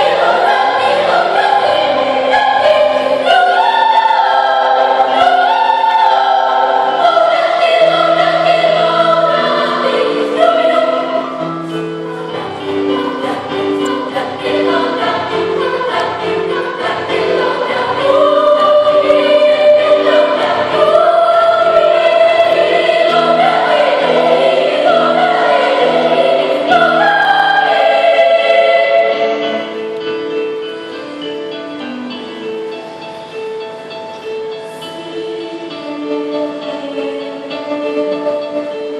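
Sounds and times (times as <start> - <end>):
children's choir singing: 0.0 - 38.9
instrumental accompaniment: 0.0 - 38.9.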